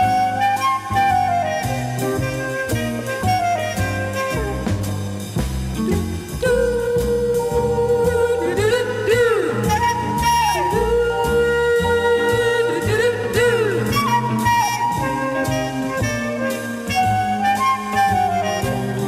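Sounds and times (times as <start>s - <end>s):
stepping bass line: 1.4s - 17.4s.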